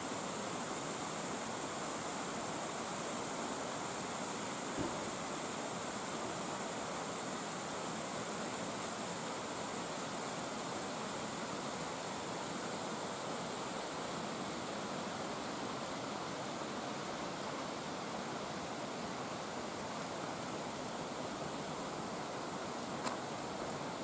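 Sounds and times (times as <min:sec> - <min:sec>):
stream and waterfall rushing: 0:00.0 - 0:24.0.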